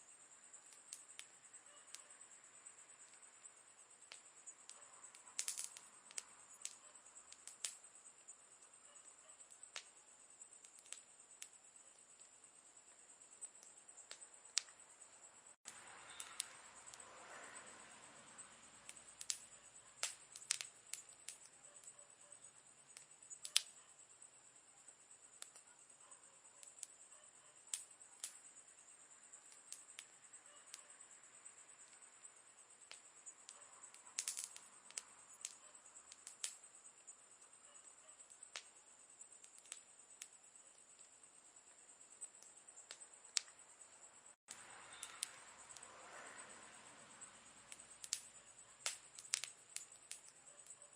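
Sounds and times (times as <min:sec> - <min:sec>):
steady high hiss: 0:00.0 - 0:50.8
campfire crackling and popping: 0:00.5 - 0:14.8, 0:15.6 - 0:17.1, 0:18.7 - 0:22.0, 0:22.8 - 0:23.8, 0:25.1 - 0:28.7, 0:29.4 - 0:30.8, 0:31.8 - 0:43.6, 0:44.3 - 0:46.5, 0:47.7 - 0:50.8.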